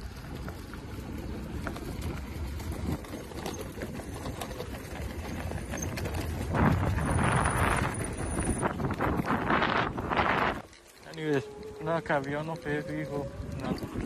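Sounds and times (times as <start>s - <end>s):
small rattles and clicks: 0.0s - 14.0s
tyres rumbling on ground: 0.0s - 14.0s
wind buffeting microphone: 0.0s - 14.0s.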